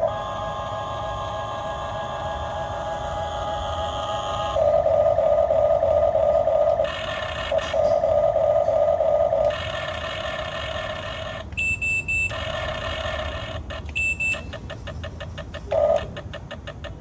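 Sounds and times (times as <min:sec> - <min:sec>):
small electric motors whining: 0:00.0 - 0:16.9.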